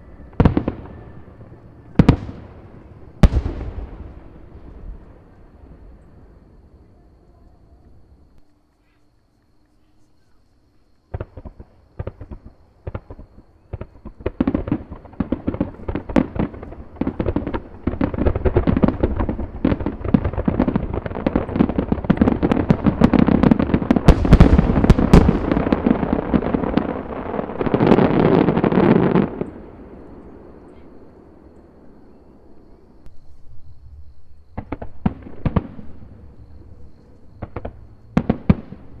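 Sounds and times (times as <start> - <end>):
fireworks bangs and crackling: 0.0 - 6.8, 11.1 - 31.5, 33.8 - 39.0.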